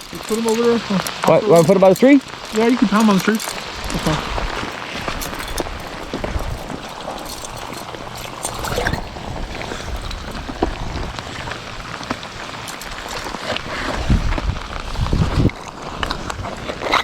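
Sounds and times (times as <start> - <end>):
drips and ticks: 0.0 - 17.0
low rumbles: 0.0 - 17.0
rain falling: 0.0 - 17.0.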